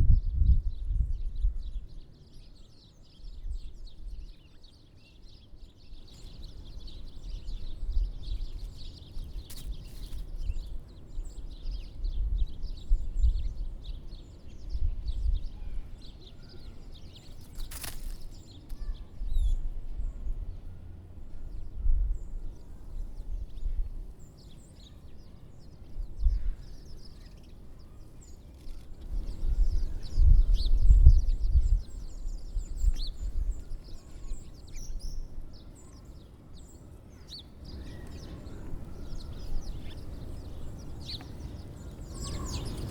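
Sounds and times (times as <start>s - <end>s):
small songbirds chirping: 0.0s - 42.9s.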